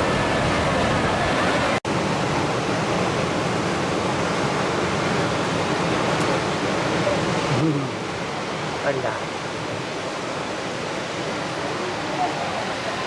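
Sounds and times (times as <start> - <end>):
water rushing in heavy torrent: 0.0 - 13.0.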